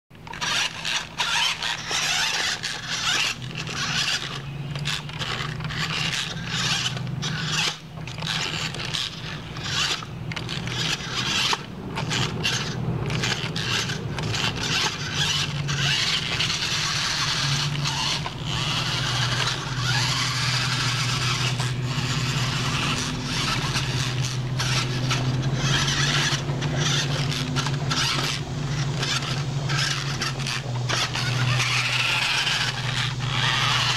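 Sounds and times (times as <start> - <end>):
steady low hum: 0.1 - 33.9
toy motors whining: 0.2 - 33.9
tyres scraping over rock: 0.2 - 33.9.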